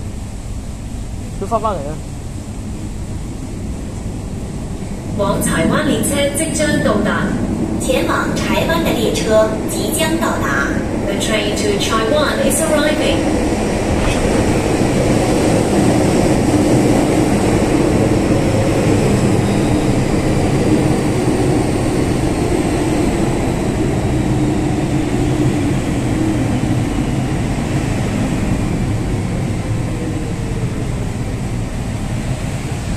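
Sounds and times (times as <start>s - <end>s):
electric train rumbling: 0.0s - 32.9s.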